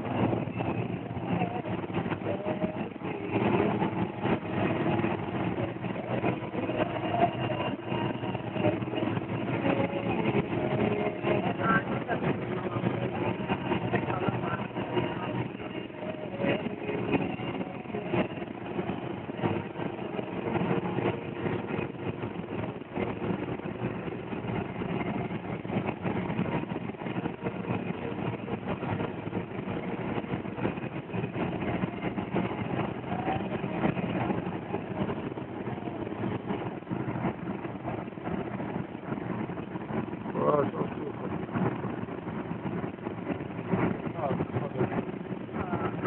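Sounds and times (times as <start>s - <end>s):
car engine and tyre noise: 0.0s - 46.0s.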